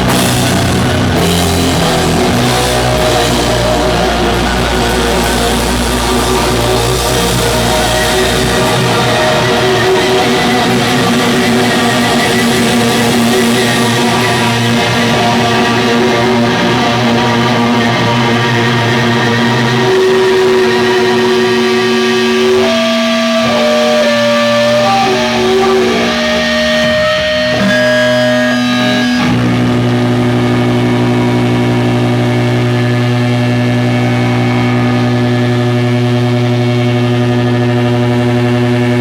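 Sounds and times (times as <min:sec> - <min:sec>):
guitar amplifier feedback: 0:00.0 - 0:39.0
steady droning guitar tone: 0:00.0 - 0:39.0.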